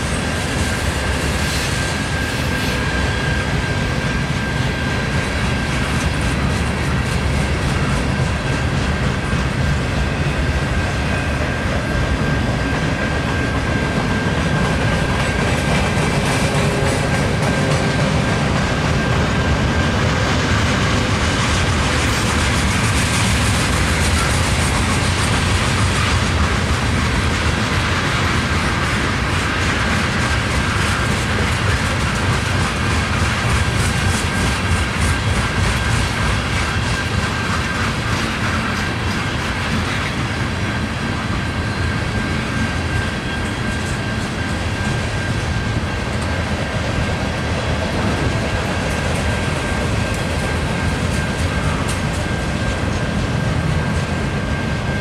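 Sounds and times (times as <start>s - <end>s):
freight train rumble: 0.0s - 55.0s
train wheels clicking over rail joints: 0.0s - 55.0s.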